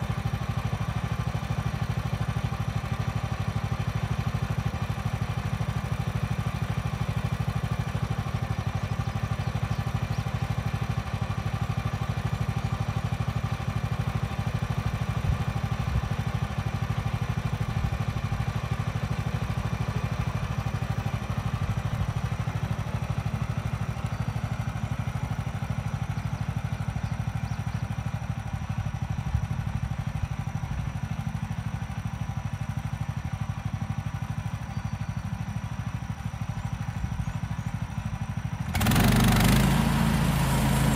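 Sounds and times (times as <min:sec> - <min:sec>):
gas engine running steadily: 0:00.0 - 0:40.9.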